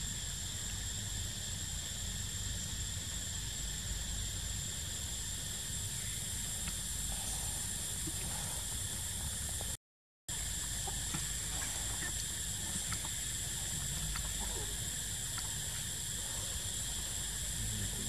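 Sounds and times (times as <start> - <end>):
faint insect chirps: 0.0 - 9.7, 10.3 - 18.0
insects droning: 0.0 - 18.0.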